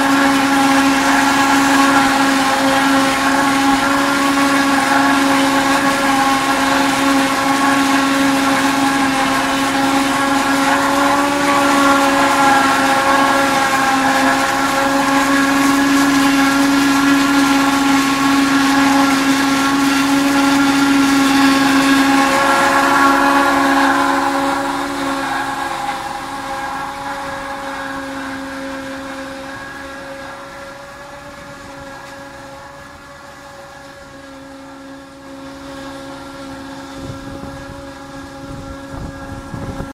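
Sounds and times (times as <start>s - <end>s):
forage harvester mechanical whine: 0.0s - 39.9s.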